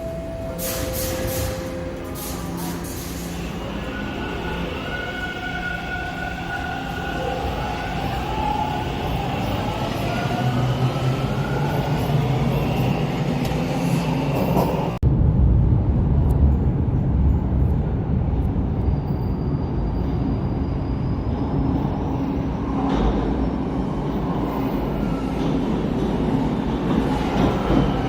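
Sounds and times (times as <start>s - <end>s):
subway train wheels rumbling: 0.0s - 28.0s.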